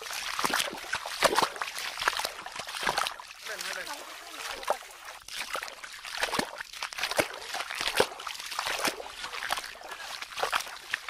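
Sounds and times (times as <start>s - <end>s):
feet splashing in stream: 0.0s - 11.0s.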